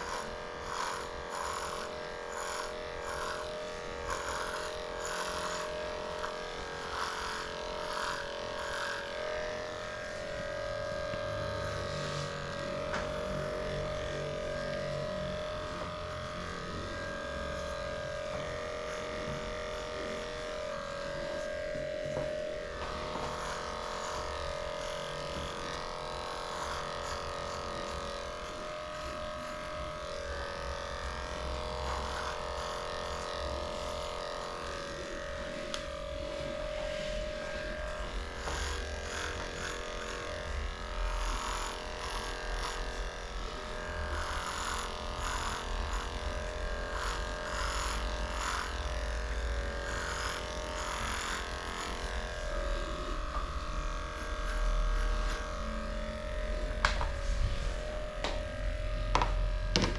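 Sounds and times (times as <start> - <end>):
electric clippers shaving fur: 0.0 - 59.9.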